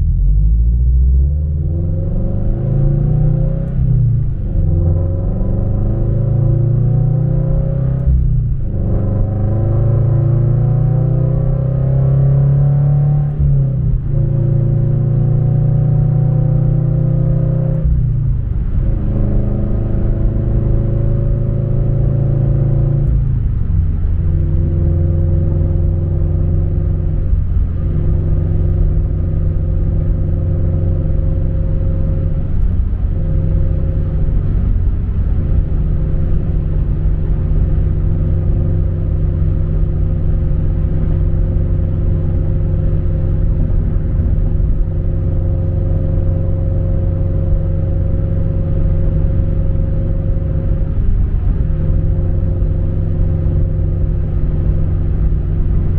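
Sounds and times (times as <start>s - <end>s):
car engine rumbling while cruising: 0.0s - 55.9s.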